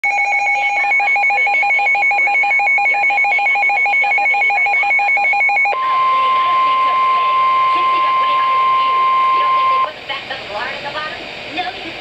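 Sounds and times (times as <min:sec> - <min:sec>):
steady single-pitch warning tone: 0:00.0 - 0:09.9.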